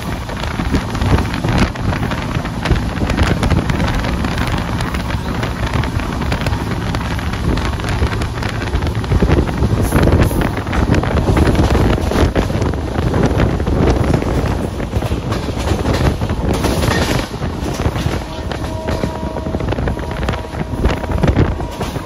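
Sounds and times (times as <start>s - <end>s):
train rumble: 0.0s - 22.0s
wheels clicking on track: 0.0s - 22.0s
wind buffeting microphone: 0.0s - 22.0s.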